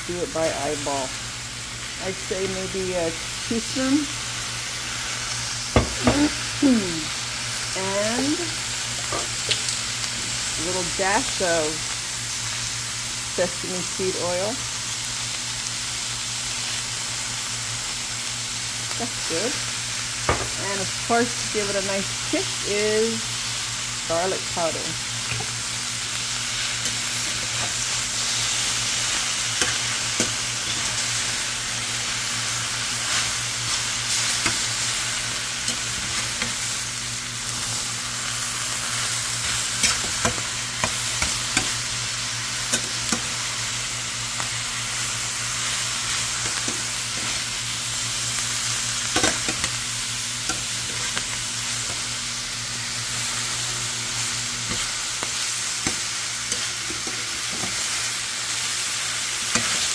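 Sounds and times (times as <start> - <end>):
vegetables sizzling in pan: 0.0 - 59.9.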